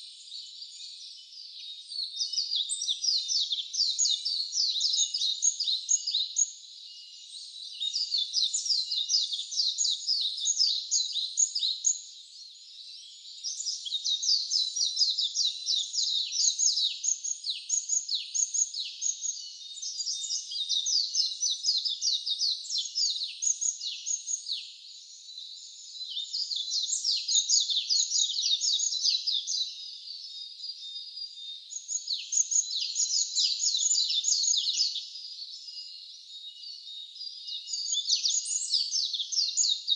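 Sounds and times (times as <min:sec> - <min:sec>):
songbird twittering: 0:00.0 - 0:39.9.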